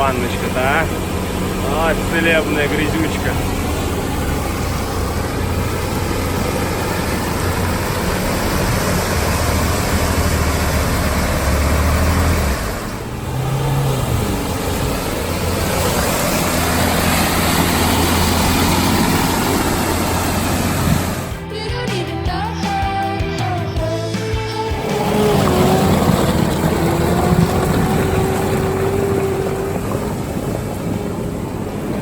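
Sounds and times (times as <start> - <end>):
off-road vehicle engine running: 0.0 - 21.9, 23.3 - 32.0.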